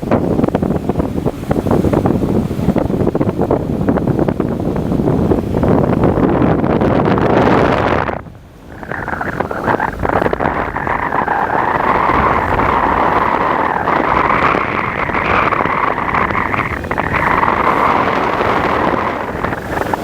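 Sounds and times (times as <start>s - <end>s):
churning sea water rushing: 0.0s - 20.0s
wind buffeting microphone: 0.0s - 20.0s.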